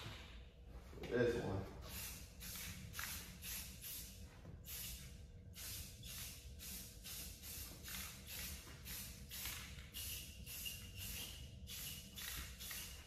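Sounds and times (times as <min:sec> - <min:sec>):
spray hissing bursts: 0:01.8 - 0:13.0.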